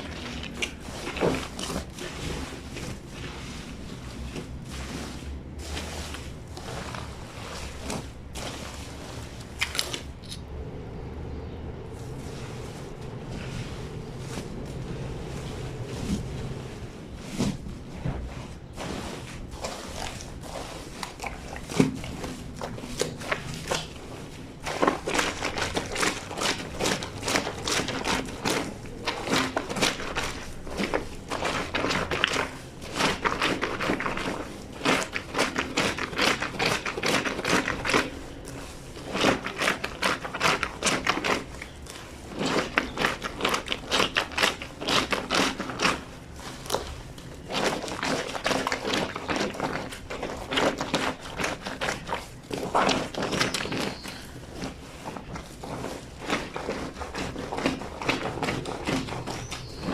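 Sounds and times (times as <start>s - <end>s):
scrubbing wet blanket on washboard: 0.0s - 59.9s.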